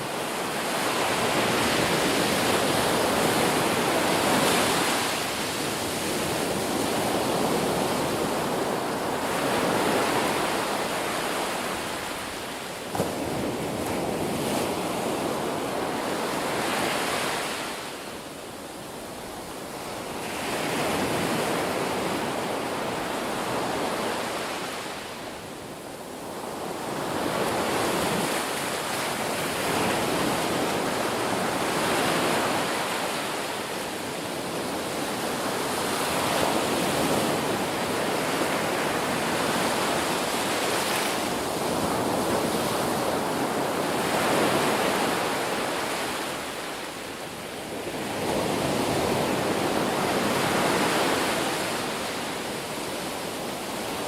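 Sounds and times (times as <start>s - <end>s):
ocean surf washing ashore: 0.0s - 54.0s.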